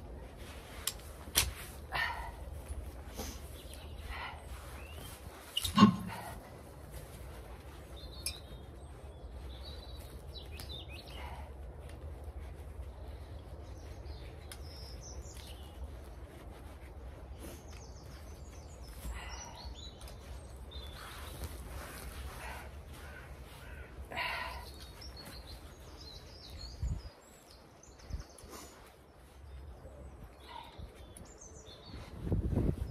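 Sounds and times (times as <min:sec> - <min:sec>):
small birds chirping: 0:01.8 - 0:32.9.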